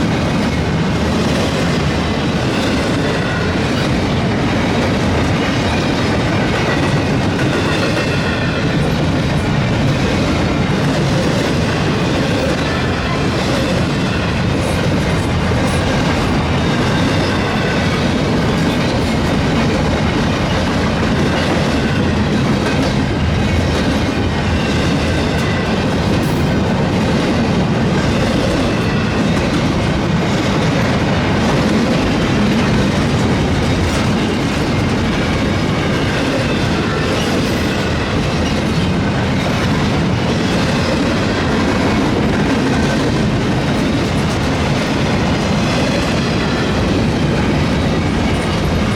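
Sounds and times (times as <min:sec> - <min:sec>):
freight train rumble: 0:00.0 - 0:48.9.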